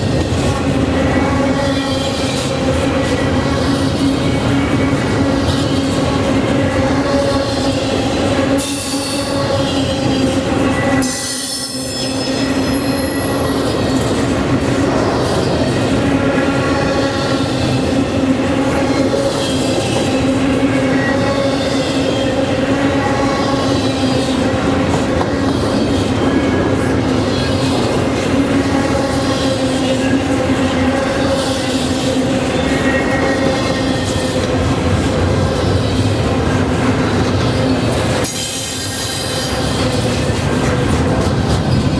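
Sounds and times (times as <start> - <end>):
freight train rolling past: 0.0 - 41.9
wheels squealing on rails: 0.0 - 41.9.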